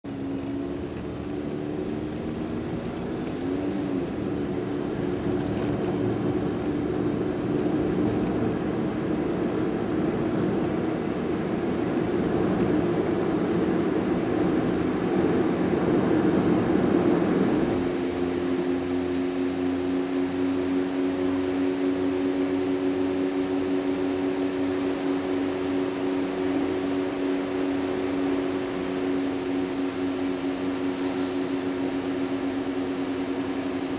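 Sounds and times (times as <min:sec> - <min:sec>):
low hum: 0:00.0 - 0:33.9
tyre roar inside car: 0:00.0 - 0:33.9.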